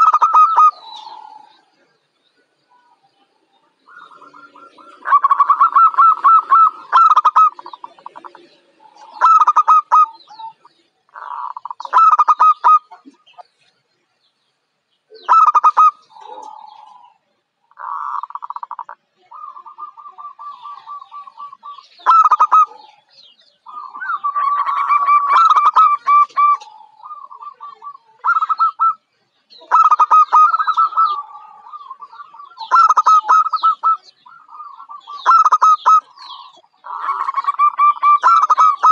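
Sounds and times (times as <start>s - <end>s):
dove cooing: 0.0s - 2.0s, 3.7s - 13.4s, 15.1s - 38.9s.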